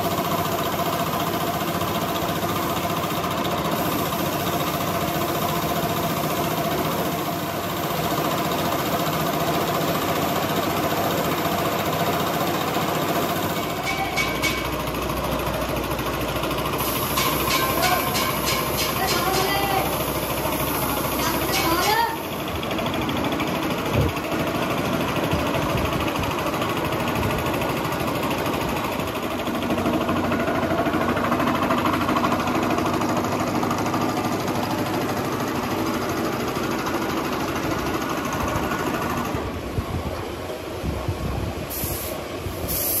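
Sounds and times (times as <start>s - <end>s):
workshop machinery rattling: 0.0s - 39.6s.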